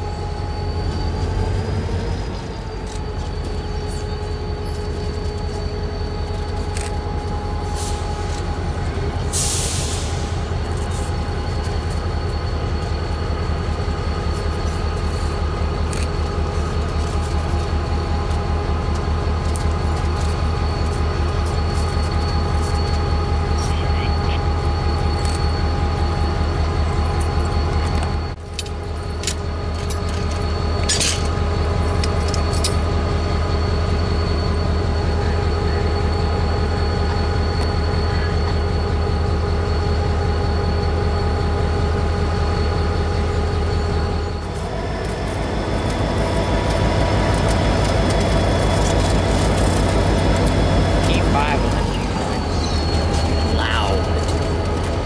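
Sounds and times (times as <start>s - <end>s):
constant whine: 0.0s - 55.0s
diesel locomotive engine rumble: 0.0s - 55.0s.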